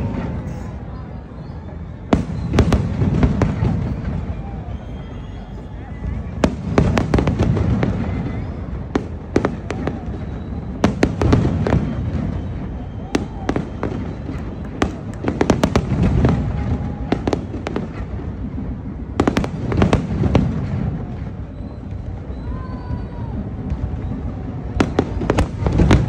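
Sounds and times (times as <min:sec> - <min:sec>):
fireworks bursting bangs: 0:00.0 - 0:26.0
low rumble of explosions: 0:00.0 - 0:26.0.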